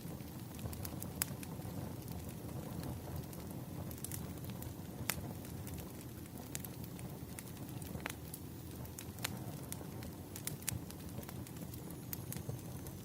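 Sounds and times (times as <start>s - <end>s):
bonfire flames roaring: 0.0s - 13.0s
wood crackling and popping: 0.0s - 13.0s.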